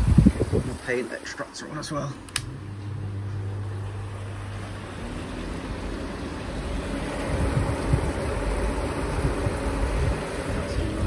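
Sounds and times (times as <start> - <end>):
gusty low rumble: 0.0 - 0.8, 2.4 - 11.0
extractor fan humming: 0.0 - 11.0.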